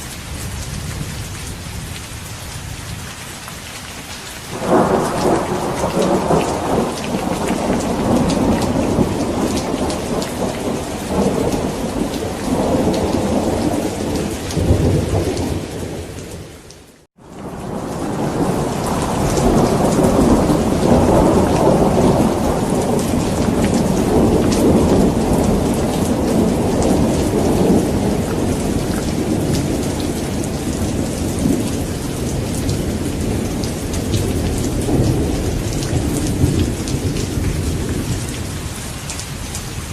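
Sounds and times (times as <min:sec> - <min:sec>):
heavy rain falling: 0:00.0 - 0:39.9
thunder rumbling: 0:04.5 - 0:16.5, 0:17.3 - 0:39.9.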